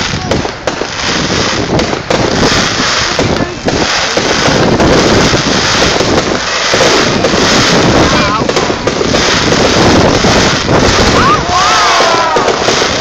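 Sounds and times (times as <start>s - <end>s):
crowd voices: 0.0s - 13.0s
wind buffeting microphone: 0.0s - 13.0s.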